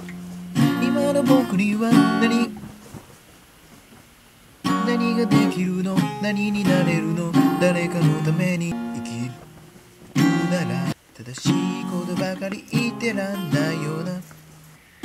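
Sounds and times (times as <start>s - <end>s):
acoustic guitar strumming: 0.0s - 2.9s, 4.6s - 14.8s.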